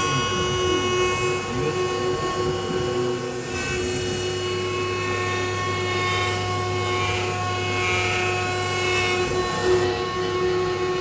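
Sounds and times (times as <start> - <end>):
bit cutting wood: 0.0 - 11.0
router spindle whine: 0.0 - 11.0.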